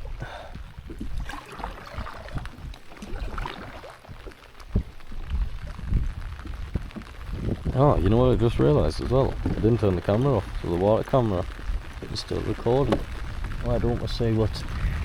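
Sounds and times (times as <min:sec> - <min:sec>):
paddle splashing in water: 0:00.0 - 0:07.8, 0:08.6 - 0:14.0.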